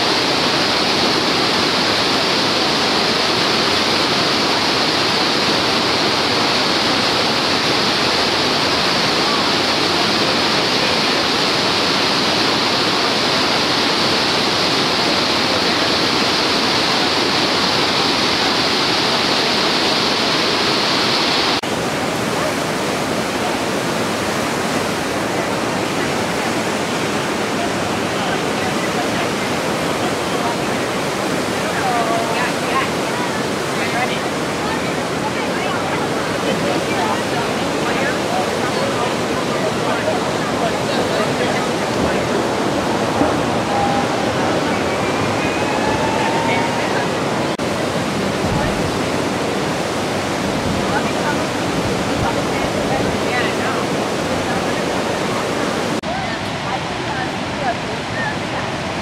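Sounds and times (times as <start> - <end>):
waterfall roar: 0.0 - 59.0.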